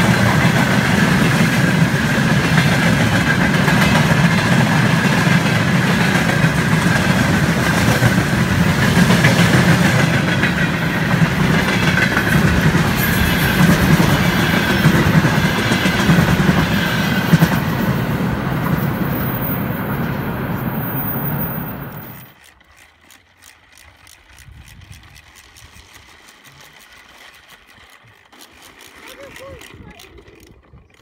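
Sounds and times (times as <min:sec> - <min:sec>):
train wheels rolling on rail: 0:00.0 - 0:31.0.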